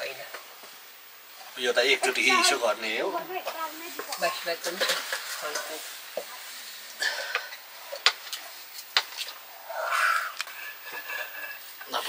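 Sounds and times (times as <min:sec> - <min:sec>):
food sizzling in a pot: 0:00.0 - 0:10.3.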